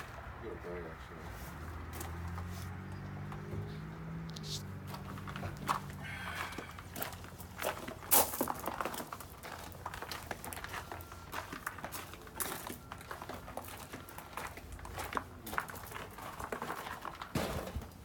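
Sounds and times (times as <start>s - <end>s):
footsteps on gravel: 1.2s - 18.0s.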